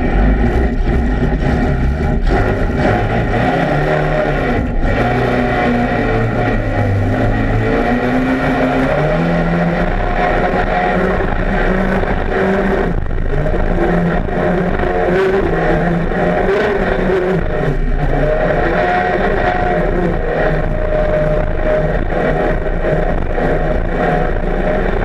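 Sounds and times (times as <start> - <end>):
boat racing engine: 0.0 - 25.0.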